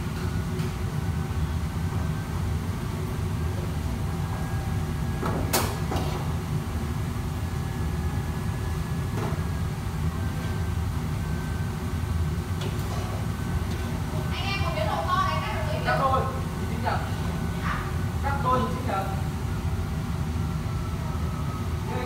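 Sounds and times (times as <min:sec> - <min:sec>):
burners and exhaust hood roaring: 0:00.0 - 0:22.0.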